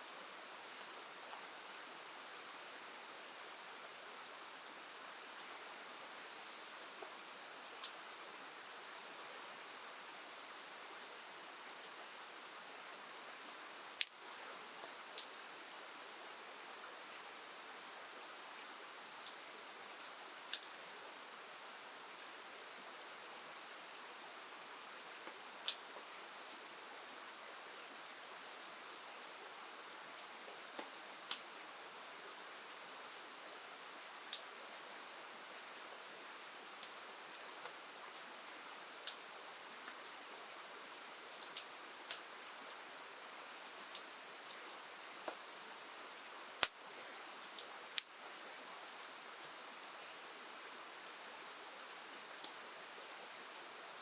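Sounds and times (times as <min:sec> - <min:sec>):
flowing river: 0:00.0 - 0:54.0
rain hiss: 0:00.0 - 0:54.0.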